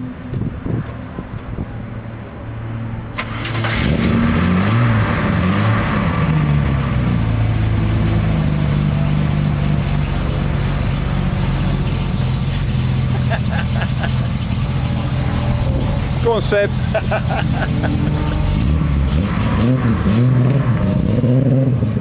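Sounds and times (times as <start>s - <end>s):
car engine starting and revving: 3.1s - 22.0s.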